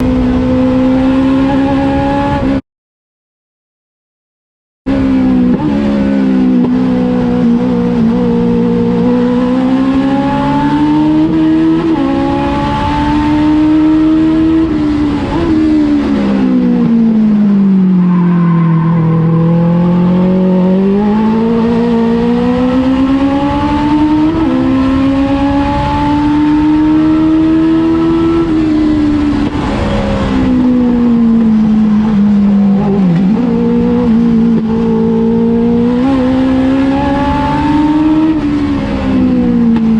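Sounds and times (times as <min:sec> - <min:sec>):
motorcycle engine revving high: 0:00.0 - 0:02.6, 0:04.9 - 0:39.9.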